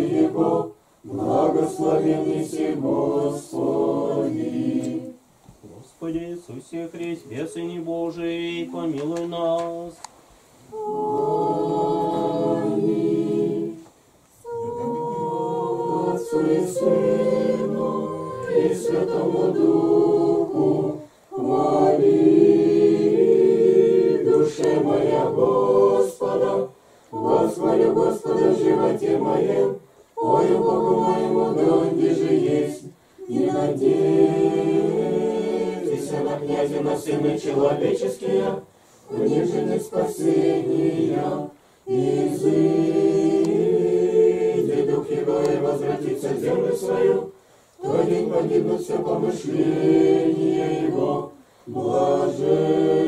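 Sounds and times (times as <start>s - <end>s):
group singing unaccompanied chant: 0.0s - 5.8s, 6.5s - 10.0s, 10.6s - 53.0s.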